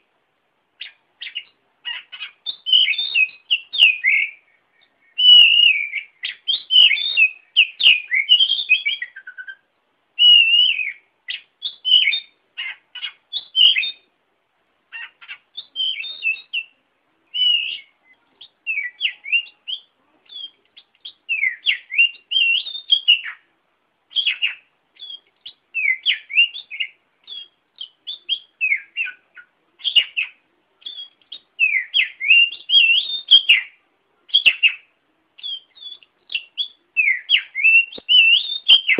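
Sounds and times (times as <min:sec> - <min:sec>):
songbird singing whistled phrases: 0:00.8 - 0:14.1, 0:14.9 - 0:23.5, 0:24.1 - 0:38.9.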